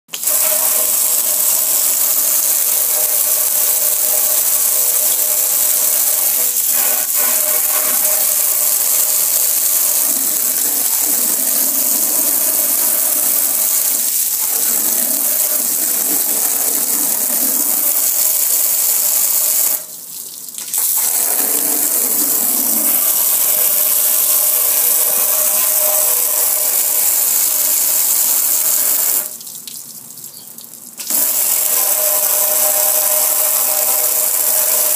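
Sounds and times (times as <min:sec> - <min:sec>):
pressure washer spraying metal: 0:00.1 - 0:19.9, 0:20.6 - 0:29.4, 0:31.0 - 0:34.9.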